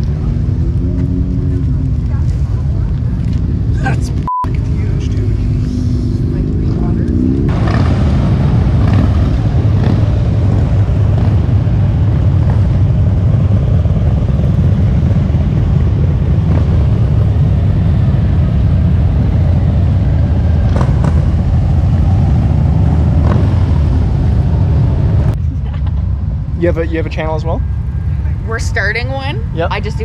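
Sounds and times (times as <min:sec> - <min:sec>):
motorcycle engines rumbling: 0:00.0 - 0:30.0.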